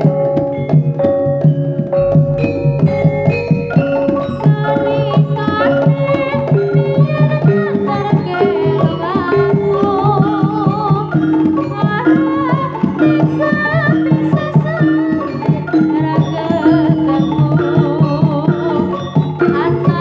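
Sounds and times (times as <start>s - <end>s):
busy drum rhythm: 0.0s - 20.0s
held-note melody: 0.0s - 20.0s
wavering melody line: 0.0s - 20.0s.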